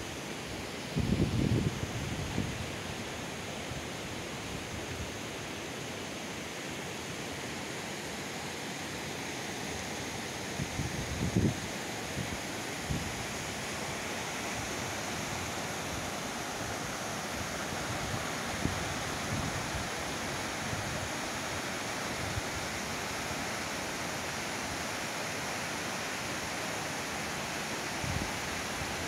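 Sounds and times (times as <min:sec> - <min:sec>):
waterfall rushing: 0:05.4 - 0:29.0.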